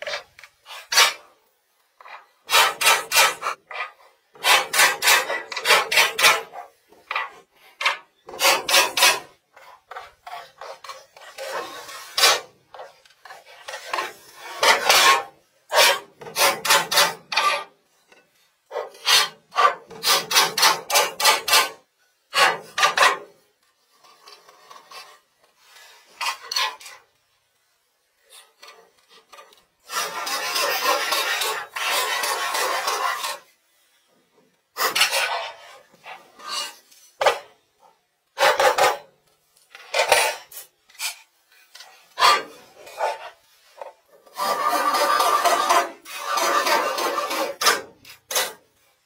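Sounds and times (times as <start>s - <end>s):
hand tool scraping wood: 0.0s - 1.3s, 2.0s - 18.1s, 18.7s - 23.3s, 24.0s - 27.0s, 28.3s - 33.6s, 34.8s - 37.5s, 39.7s - 48.6s.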